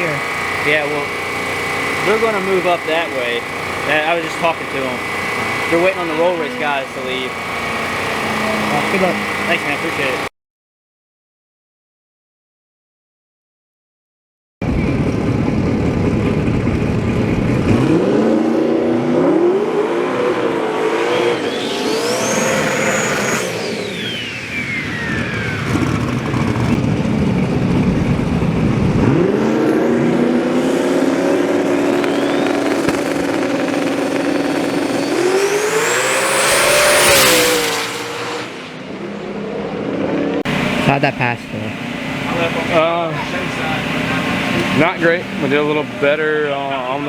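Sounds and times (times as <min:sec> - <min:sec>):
drag racing car engines revving: 0:00.0 - 0:10.3, 0:14.6 - 0:47.0
high engine whine: 0:00.0 - 0:10.3, 0:14.6 - 0:47.0
loud rush: 0:00.0 - 0:10.3, 0:14.6 - 0:47.0.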